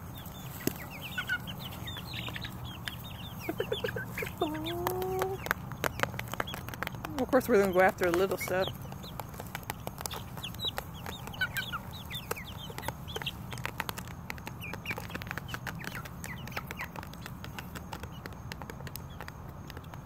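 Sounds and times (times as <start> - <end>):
chicks peeping: 0.0 - 20.0
beaks pecking plastic bowl: 0.1 - 20.0.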